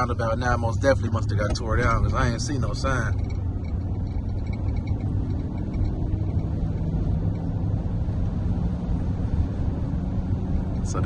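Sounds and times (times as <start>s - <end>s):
road and engine noise: 0.0s - 11.0s.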